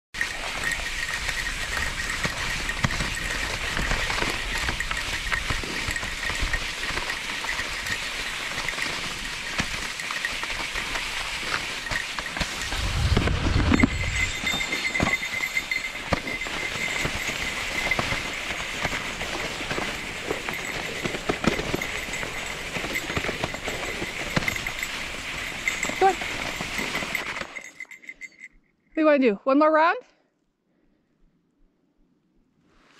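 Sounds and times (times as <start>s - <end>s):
sled runners sliding over snow: 0.2s - 28.5s.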